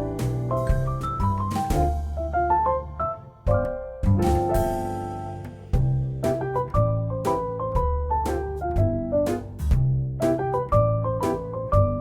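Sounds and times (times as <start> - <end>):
drum hits: 0.0 - 2.6, 3.5 - 12.0.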